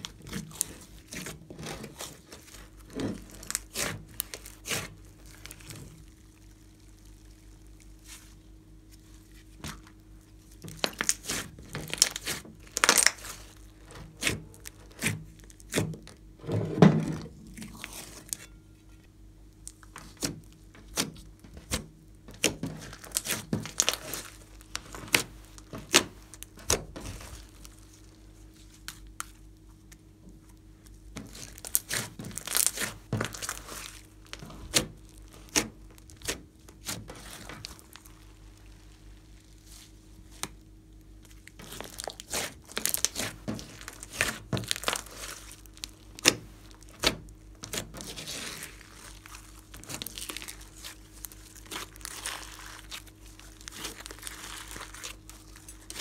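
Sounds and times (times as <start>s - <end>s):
slime crackling and popping: 0.0s - 8.4s, 9.5s - 16.2s, 22.3s - 29.5s, 30.6s - 56.0s.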